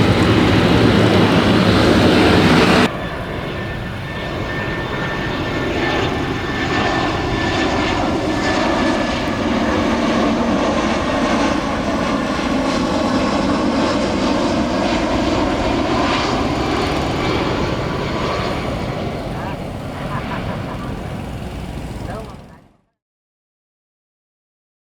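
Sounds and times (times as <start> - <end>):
jet engine rushing: 0.0 - 22.6.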